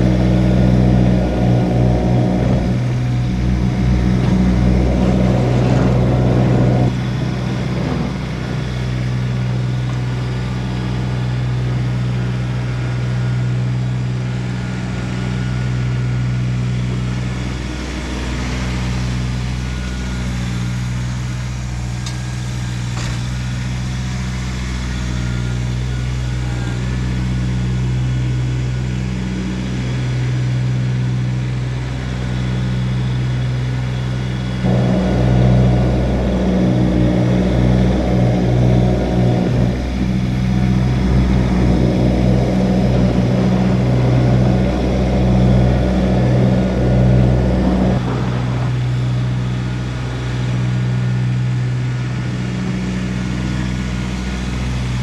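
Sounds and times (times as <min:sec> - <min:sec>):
loud extra engine layer: 0:00.0 - 0:55.0
tractor diesel engine running: 0:00.0 - 0:55.0.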